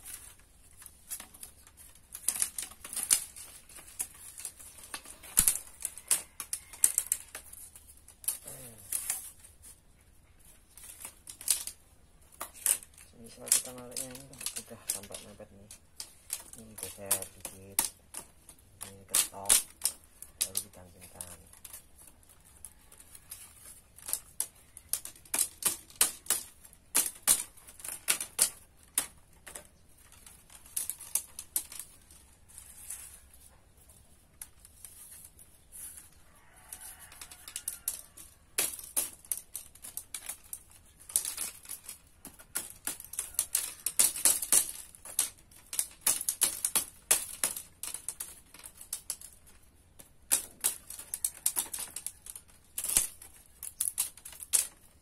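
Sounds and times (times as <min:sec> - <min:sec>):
bamboo strips clicking: 0:00.0 - 0:55.0.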